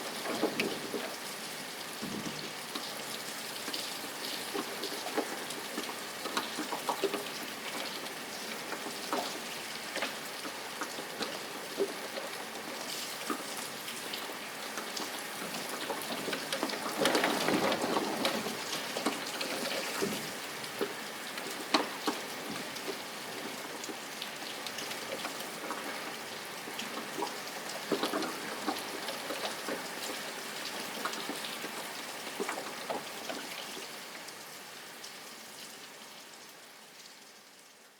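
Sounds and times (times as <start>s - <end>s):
rain falling: 0.0s - 37.9s
raindrops hitting a surface: 0.0s - 37.9s.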